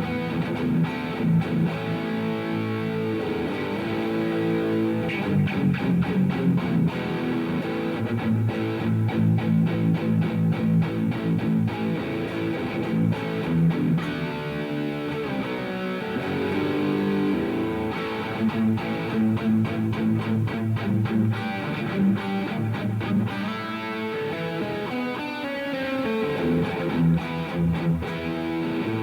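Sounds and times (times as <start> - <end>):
distorted electric guitar riffing: 0.0 - 29.0.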